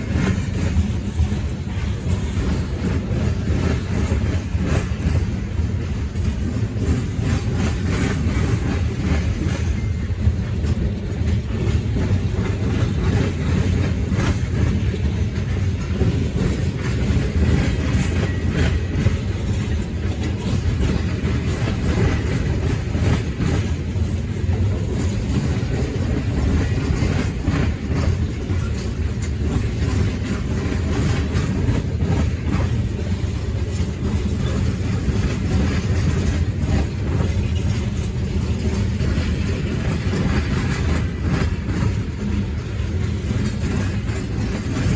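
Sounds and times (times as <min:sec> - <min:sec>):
freight train rumbling on rails: 0:00.0 - 0:44.9.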